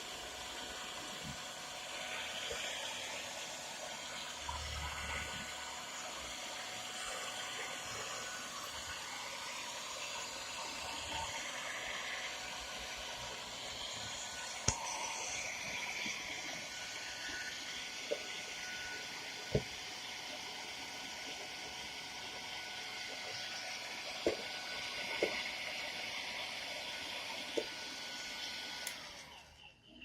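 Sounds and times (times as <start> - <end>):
hairdryer blowing: 0.0 - 29.5.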